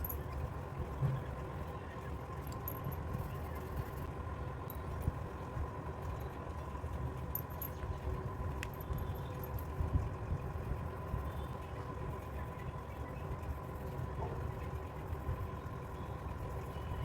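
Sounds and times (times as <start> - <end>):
faint constant whine: 0.0 - 17.0
low machine hum: 0.0 - 17.0.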